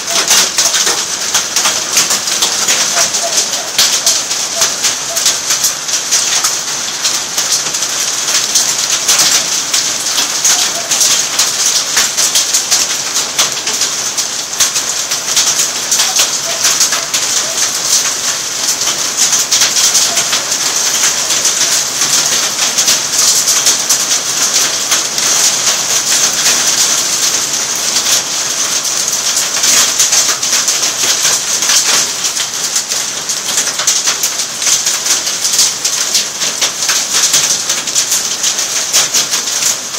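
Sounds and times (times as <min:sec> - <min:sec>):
heavy rain falling: 0:00.0 - 0:39.9
raindrops crackling on surfaces: 0:00.0 - 0:39.9.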